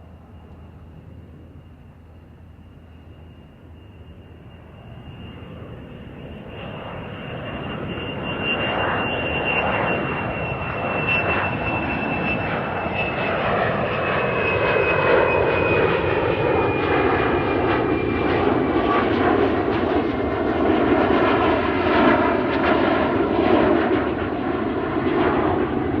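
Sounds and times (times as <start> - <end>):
jet aircraft passing by: 0.0 - 26.0.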